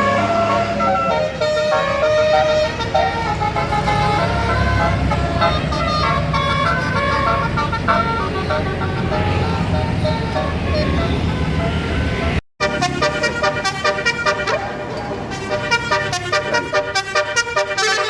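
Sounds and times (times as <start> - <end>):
bus air horn tune: 0.0 - 18.0
bus engine running: 0.0 - 18.0.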